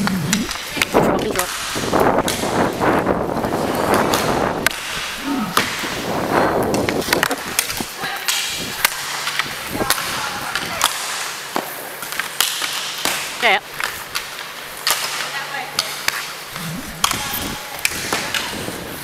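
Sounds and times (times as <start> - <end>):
hockey sticks and puck clacks: 0.1 - 2.8, 3.4 - 16.4
skate wheels rolling and scraping: 1.5 - 19.0.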